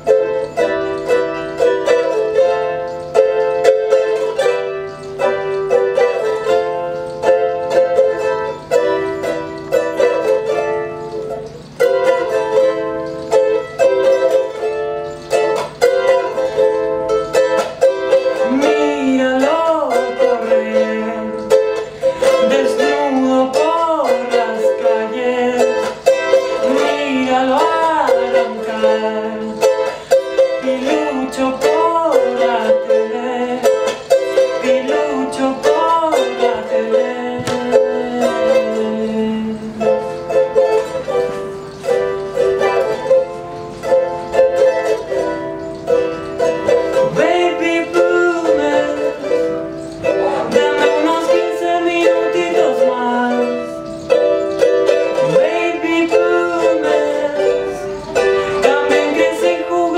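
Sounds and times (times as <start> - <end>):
ukulele strumming: 0.0 - 59.9.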